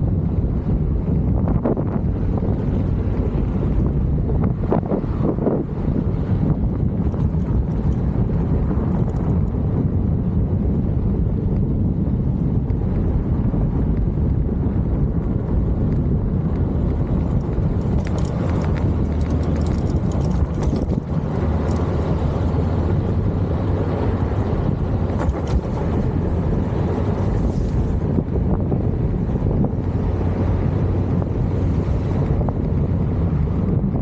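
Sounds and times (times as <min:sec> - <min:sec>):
vehicle engine running: 0:00.0 - 0:34.0
wind noise on microphone: 0:00.0 - 0:34.0.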